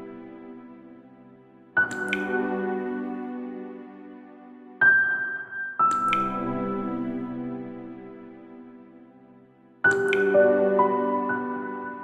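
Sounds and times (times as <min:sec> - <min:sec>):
calm instrumental music: 0:00.0 - 0:12.0.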